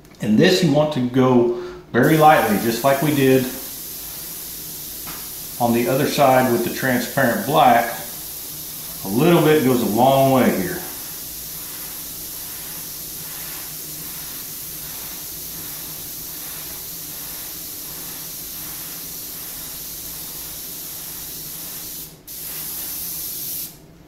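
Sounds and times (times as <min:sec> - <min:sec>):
airbrush spraying hiss: 0:02.0 - 0:23.8.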